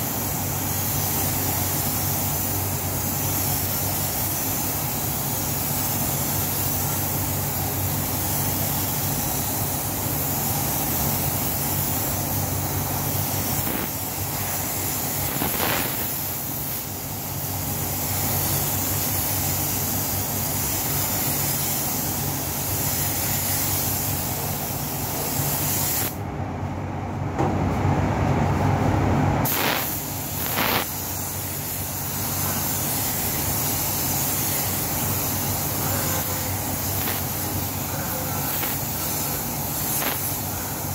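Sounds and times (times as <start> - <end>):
spray gun hissing: 0.0 - 26.2, 29.4 - 40.9.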